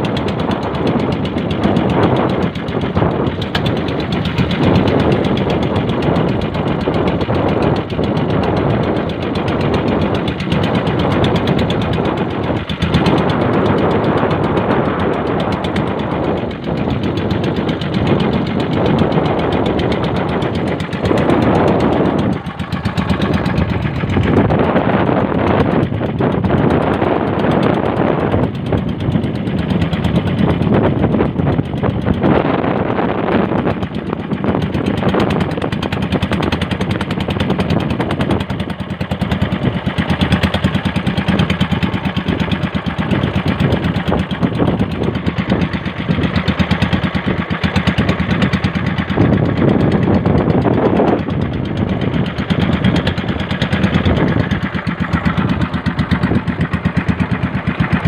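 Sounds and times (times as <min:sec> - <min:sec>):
boat engine popping steadily: 0:00.0 - 0:58.0.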